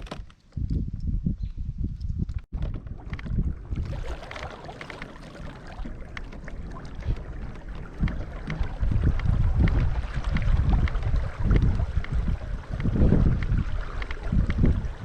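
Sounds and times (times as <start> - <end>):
wind rumble on microphone: 0.0 - 15.0
water splashing against kayak: 2.5 - 15.0.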